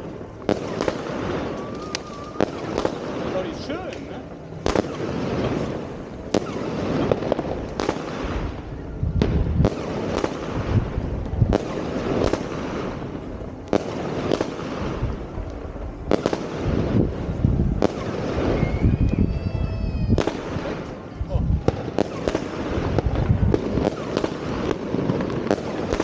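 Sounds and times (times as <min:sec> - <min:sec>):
fireworks bangs: 0:00.0 - 0:26.0
rumble of fireworks bursts: 0:00.0 - 0:26.0.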